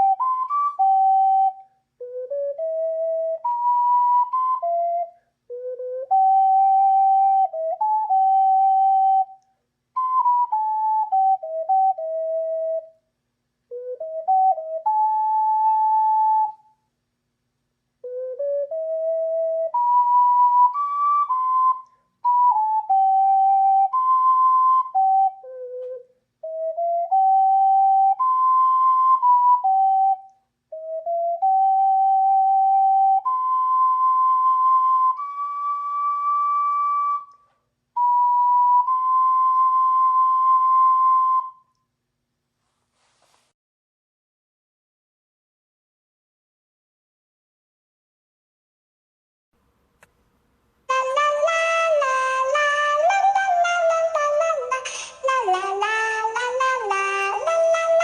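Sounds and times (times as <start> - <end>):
ocarina slow melody: 0.0 - 13.0, 13.7 - 16.8, 18.0 - 41.9, 50.9 - 58.0.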